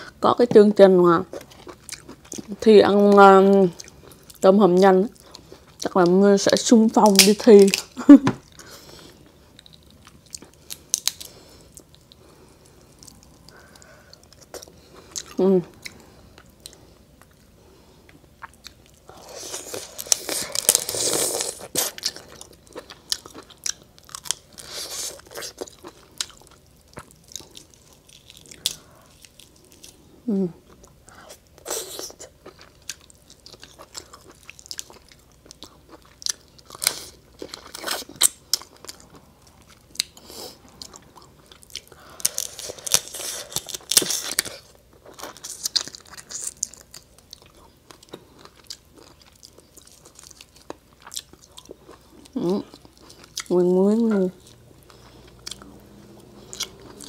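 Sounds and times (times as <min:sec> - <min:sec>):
chewing and wet mouth sounds: 0:01.3 - 0:30.0, 0:30.6 - 0:57.0.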